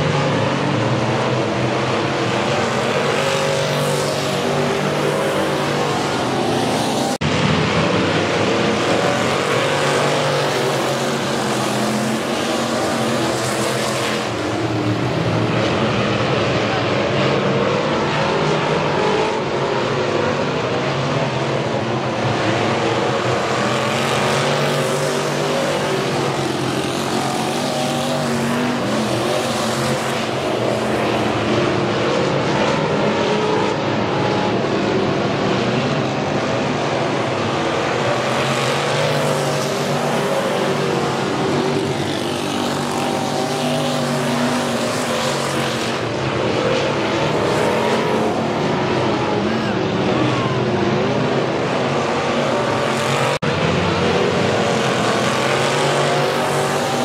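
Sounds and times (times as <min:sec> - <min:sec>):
race car engines passing: 0:00.0 - 0:57.0.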